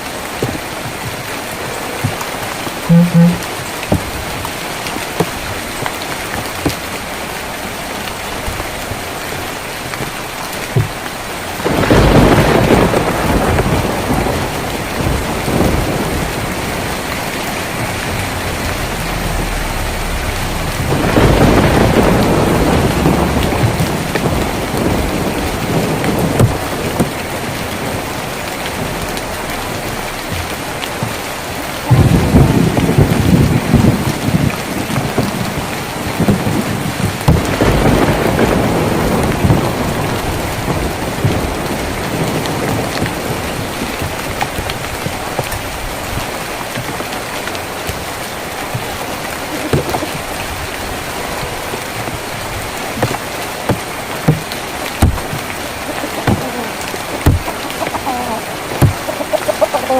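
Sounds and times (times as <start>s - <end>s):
rain on a tin roof: 0.0s - 59.9s
thunder rolling: 10.9s - 59.5s.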